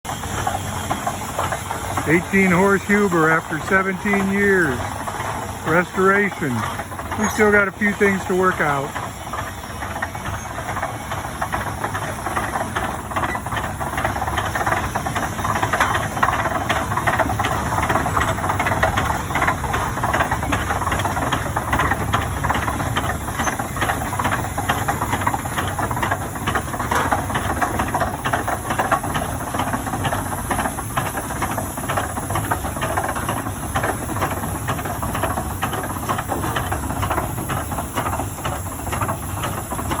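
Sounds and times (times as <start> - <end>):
steam engine exhaust beating: 0.1 - 40.0
steam hissing: 0.1 - 40.0.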